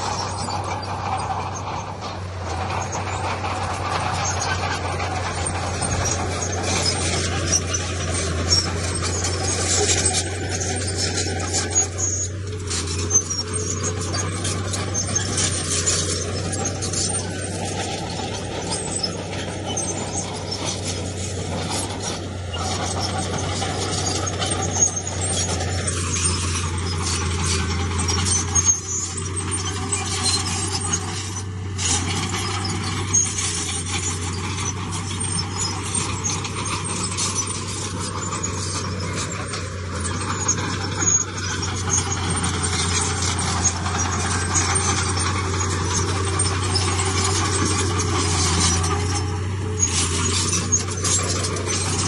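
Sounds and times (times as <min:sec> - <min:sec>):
diesel machinery engine hum: 0:00.0 - 0:52.0.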